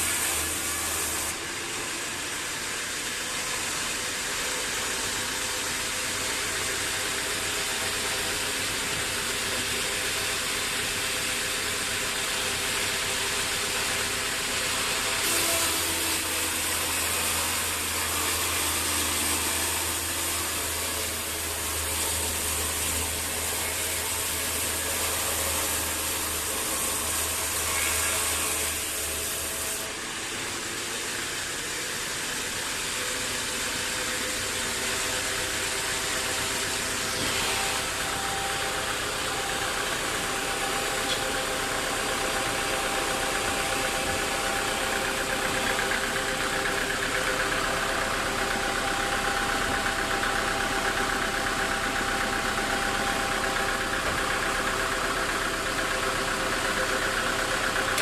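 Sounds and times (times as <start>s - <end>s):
saw blade cutting log: 0.0s - 58.0s
sawmill bandsaw running: 0.0s - 58.0s.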